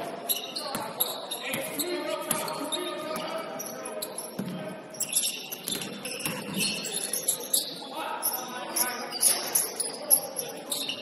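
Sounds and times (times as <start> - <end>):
sneakers squeaking on hardwood: 0.2 - 11.0.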